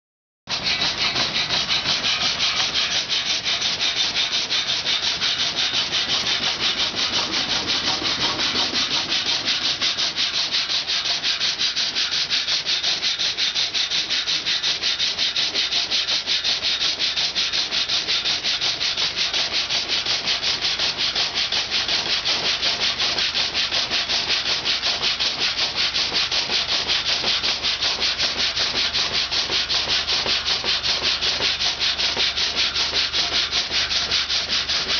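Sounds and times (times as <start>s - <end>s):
saw cutting through wood: 0.5s - 34.9s.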